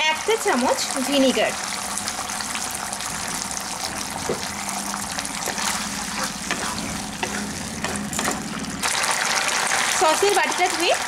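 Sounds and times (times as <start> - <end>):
low steady hum: 0.0 - 8.9
sauce sizzling in a pan: 0.0 - 11.0.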